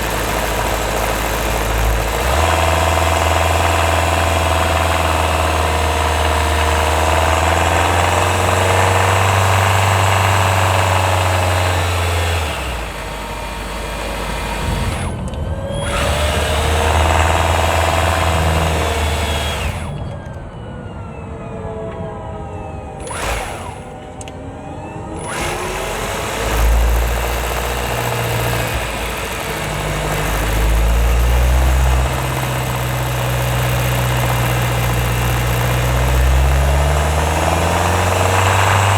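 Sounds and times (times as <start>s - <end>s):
car engine running: 0.0s - 20.0s, 25.2s - 38.9s.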